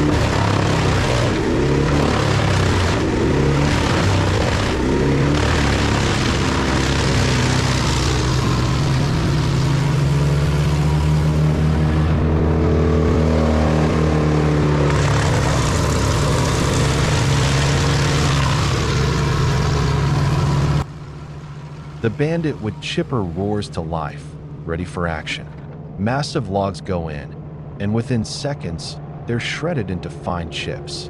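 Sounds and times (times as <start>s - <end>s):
wood chipper engine drone: 0.0s - 31.0s.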